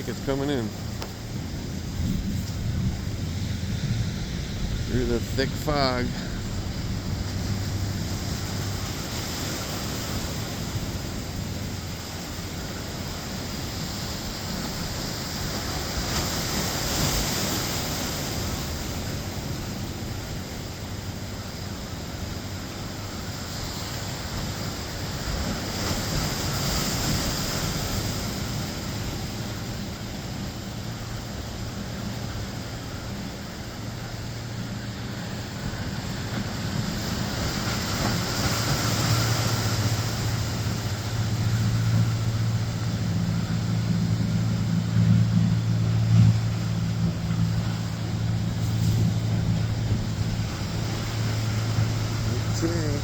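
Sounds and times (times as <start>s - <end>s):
wind buffeting microphone: 0.0s - 52.8s
distant boat engine drone: 0.0s - 53.0s
ocean surf breaking: 0.0s - 53.0s.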